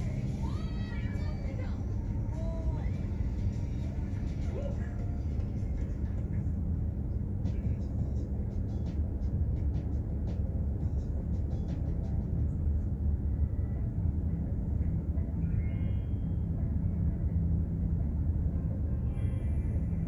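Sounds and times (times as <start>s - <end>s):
constant low hum: 0.0s - 20.0s
ship engine low rumble: 0.0s - 20.0s.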